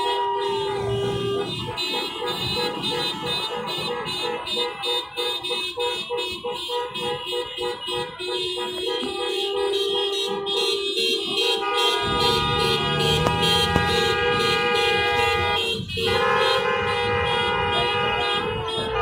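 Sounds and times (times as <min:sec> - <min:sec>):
car horns honking: 0:00.0 - 0:19.0.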